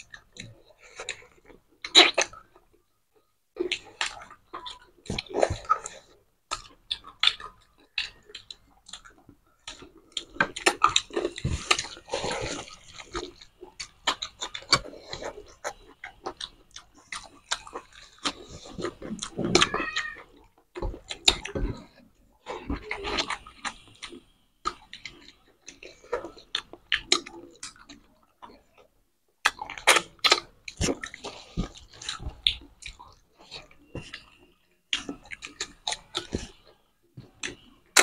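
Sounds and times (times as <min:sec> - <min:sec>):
wet chewing and lip smacking: 0:00.0 - 0:38.0.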